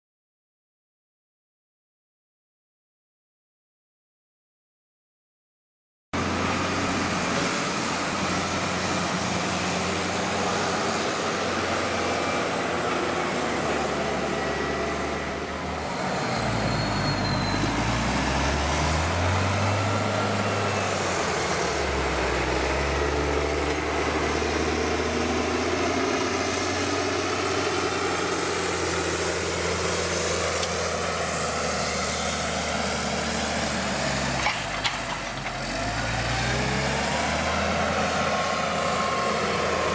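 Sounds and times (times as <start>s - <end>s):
background tractors running: 6.2s - 39.9s
tractor diesel engine: 6.2s - 39.9s.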